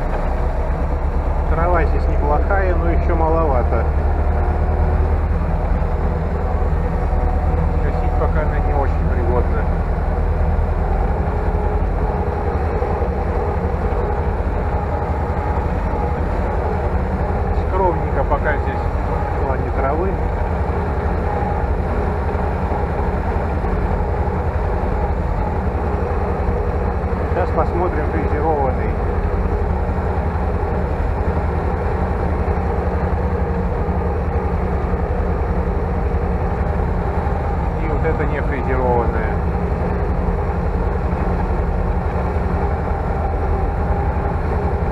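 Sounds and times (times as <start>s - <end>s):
steady hum: 0.0s - 44.9s
tractor engine droning: 0.0s - 44.9s.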